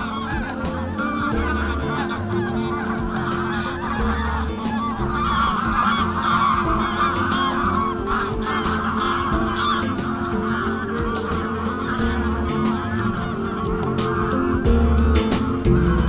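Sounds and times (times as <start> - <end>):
flock of geese calling: 0.0 - 16.0.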